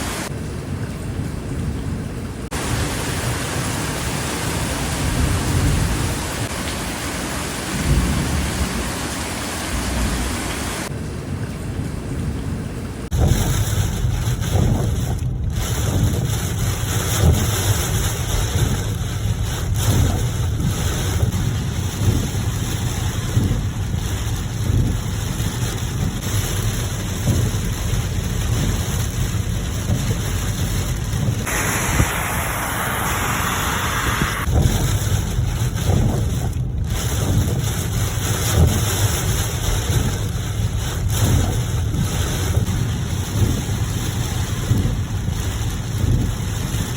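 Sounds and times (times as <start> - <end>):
constant low rumble: 0.0 - 46.9
steady rain: 0.0 - 46.9.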